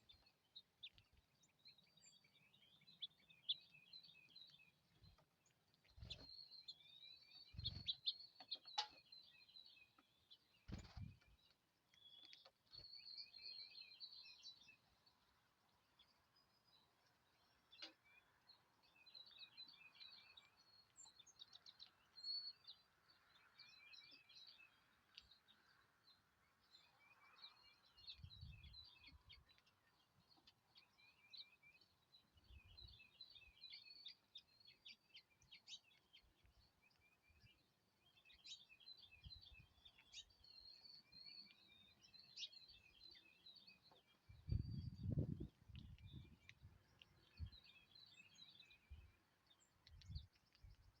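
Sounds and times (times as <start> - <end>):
songbirds chirping: 0.0 - 51.0.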